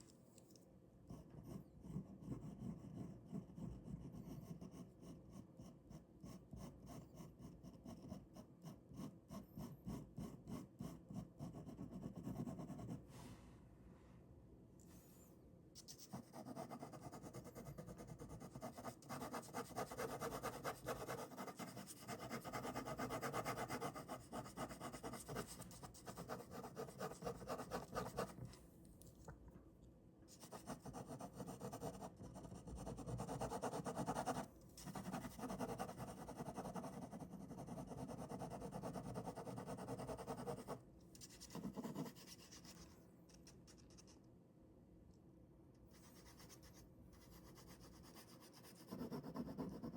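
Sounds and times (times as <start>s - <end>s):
ballpoint pen scratching on paper: 1.1s - 13.0s, 15.8s - 28.5s, 30.3s - 44.2s, 45.9s - 49.9s.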